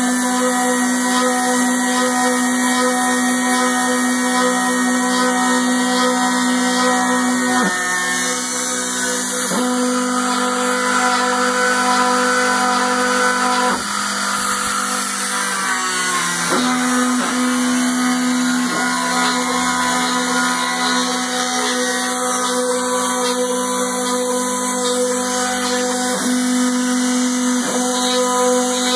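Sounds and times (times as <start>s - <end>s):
milling machine motor whine: 0.0s - 28.9s.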